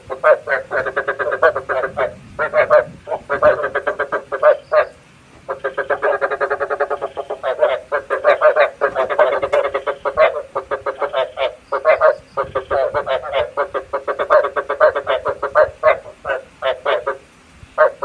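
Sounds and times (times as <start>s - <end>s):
frogs croaking: 0.0s - 18.0s.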